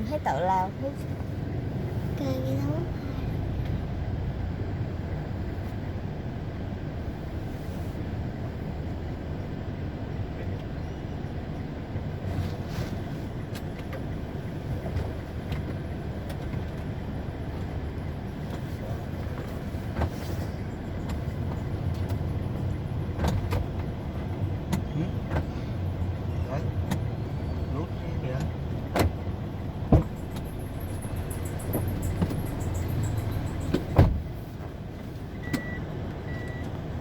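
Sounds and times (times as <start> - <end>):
vehicle rumble from inside cabin: 0.0 - 37.0.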